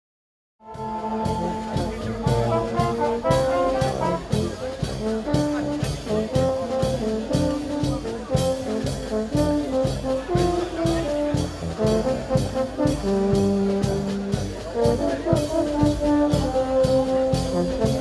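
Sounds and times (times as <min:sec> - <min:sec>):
brass band playing lively tune: 0:00.6 - 0:18.0.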